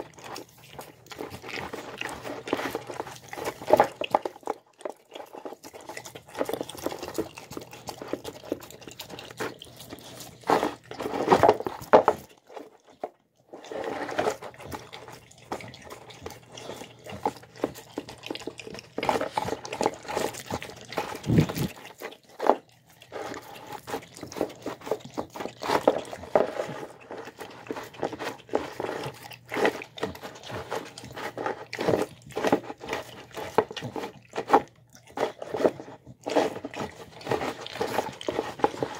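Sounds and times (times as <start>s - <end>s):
dog eating from a bowl: 0.0s - 38.9s.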